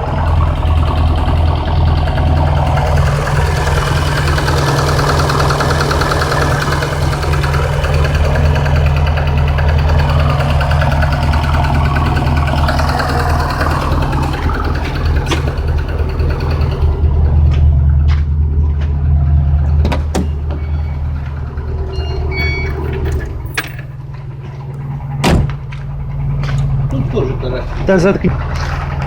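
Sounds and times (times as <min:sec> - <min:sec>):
car engine humming: 0:00.0 - 0:29.0.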